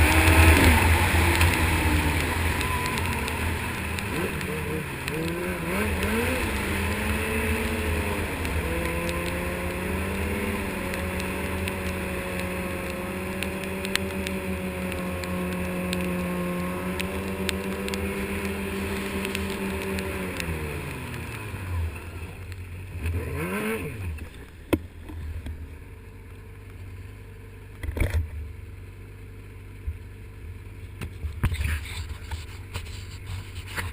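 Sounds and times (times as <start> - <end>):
snowmobile engine: 0.0 - 26.0, 31.2 - 33.9.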